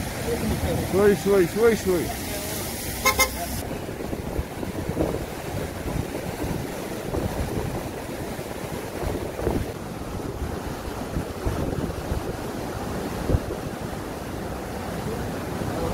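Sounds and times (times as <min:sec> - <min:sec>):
wind buffeting microphone: 0:00.0 - 0:02.7, 0:03.5 - 0:15.9
floodwater rushing: 0:00.0 - 0:15.9.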